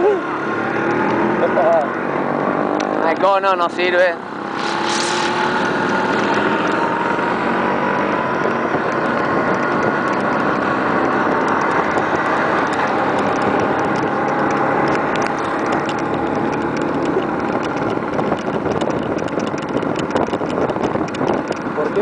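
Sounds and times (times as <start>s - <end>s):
road and wind noise: 0.0s - 22.0s
scooter engine running: 0.0s - 22.0s.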